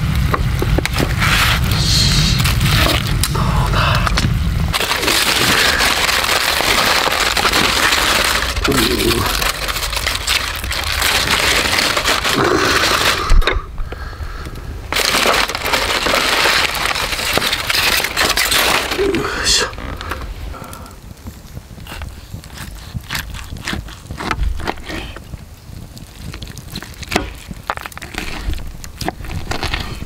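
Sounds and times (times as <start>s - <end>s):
aluminium foil crinkling and tearing: 0.9s - 3.6s, 4.7s - 13.5s, 14.9s - 30.0s.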